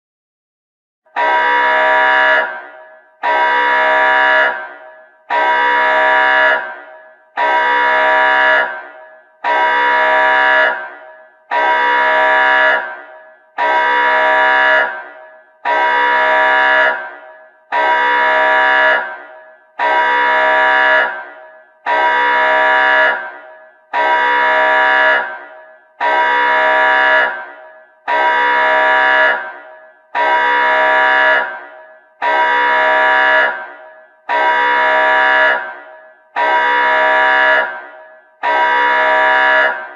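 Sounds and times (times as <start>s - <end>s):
alarm horn blasts: 1.1s - 39.9s.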